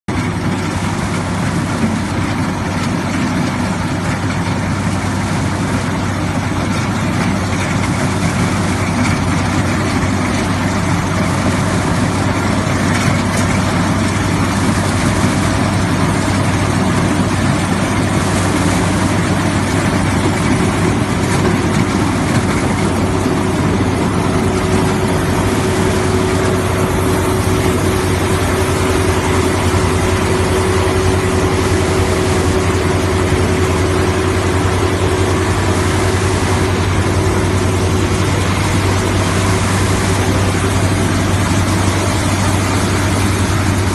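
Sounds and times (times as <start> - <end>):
heavy diesel engine running: 0.1 - 43.9
steady whine: 0.1 - 43.9.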